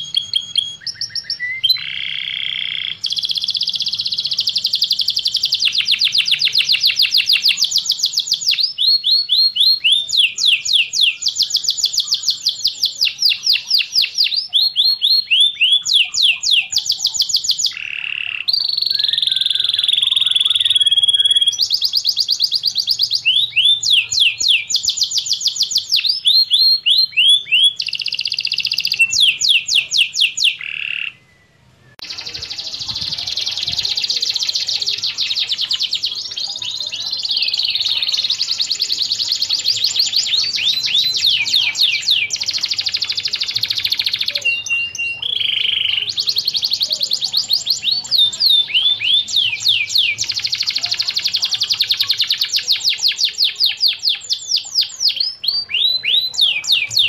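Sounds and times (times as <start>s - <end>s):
canary singing rapid trills: 0.0s - 57.0s.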